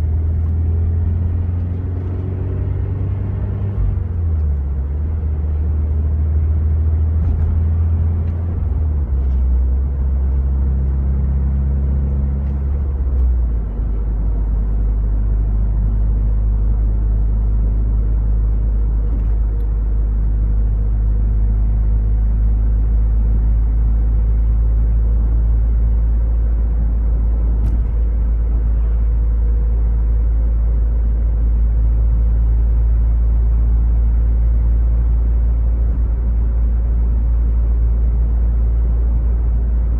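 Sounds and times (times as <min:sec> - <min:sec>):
deep car exhaust drone: 0:00.0 - 0:39.9.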